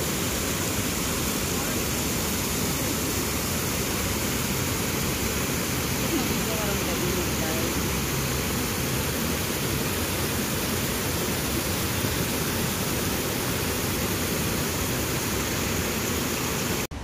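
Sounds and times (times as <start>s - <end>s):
waterfall splashing into pond: 0.0s - 17.0s.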